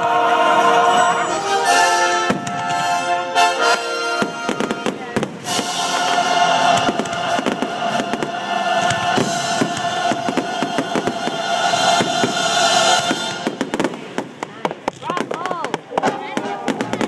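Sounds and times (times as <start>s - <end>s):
music holding sustained chord: 0.0s - 13.9s
fireworks bangs and crackles: 2.1s - 17.0s.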